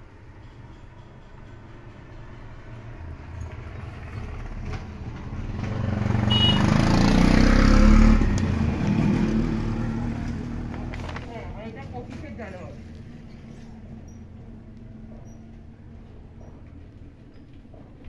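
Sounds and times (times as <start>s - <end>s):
vehicle engine rumble passing: 0.0s - 18.0s.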